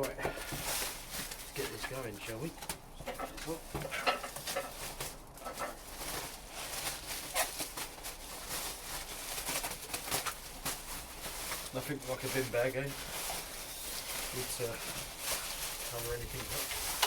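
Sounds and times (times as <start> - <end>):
plastic bag rustling: 0.0 - 17.0.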